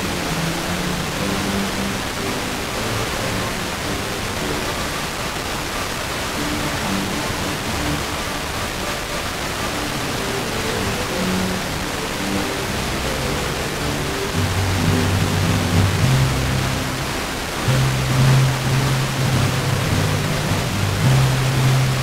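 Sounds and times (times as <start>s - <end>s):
faint classical music: 0.0s - 22.0s
radio static hiss: 0.0s - 22.0s.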